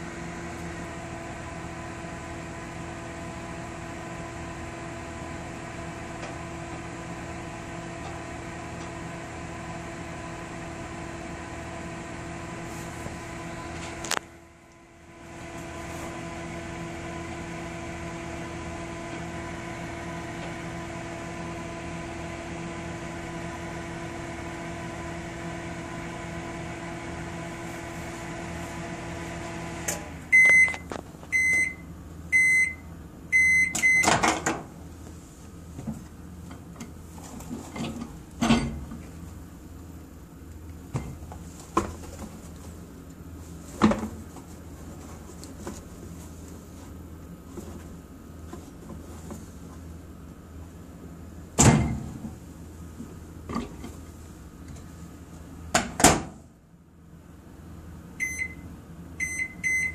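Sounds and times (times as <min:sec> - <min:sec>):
microwave oven humming: 0:00.0 - 0:59.9.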